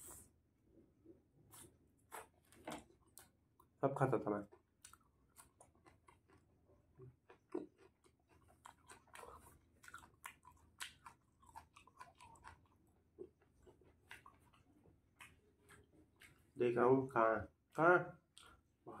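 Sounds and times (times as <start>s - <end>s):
person chewing food: 1.0s - 3.8s, 4.4s - 16.6s, 17.6s - 19.0s.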